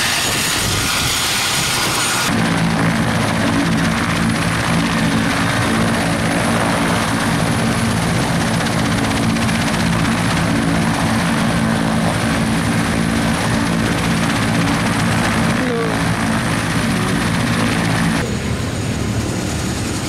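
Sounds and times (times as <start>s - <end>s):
helicopter running: 0.0s - 20.0s.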